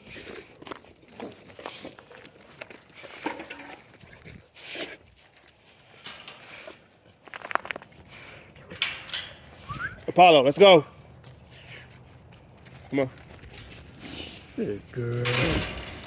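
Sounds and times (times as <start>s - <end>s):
animal movement: 0.0s - 16.0s.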